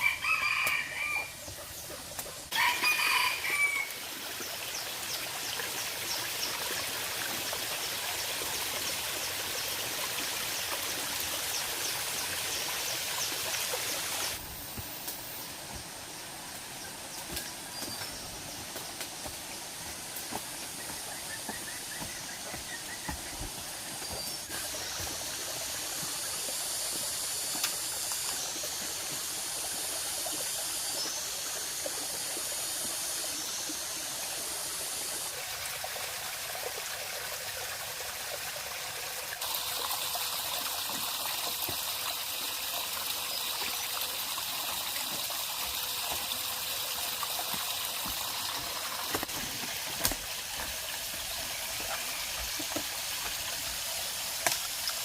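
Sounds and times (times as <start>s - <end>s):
running water trickling: 1.4s - 55.0s.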